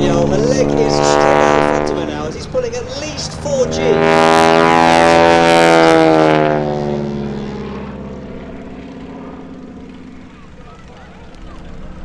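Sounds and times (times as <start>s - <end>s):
propeller plane engine passing by: 0.0s - 12.0s.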